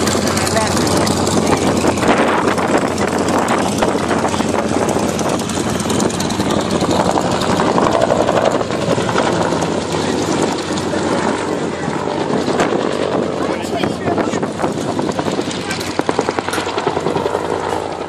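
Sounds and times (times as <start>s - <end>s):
helicopter rotor beating: 0.0s - 18.0s.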